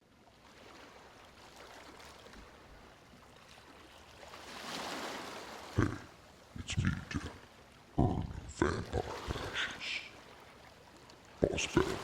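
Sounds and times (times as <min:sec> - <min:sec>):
ocean waves washing onto beach: 0:00.0 - 0:12.0.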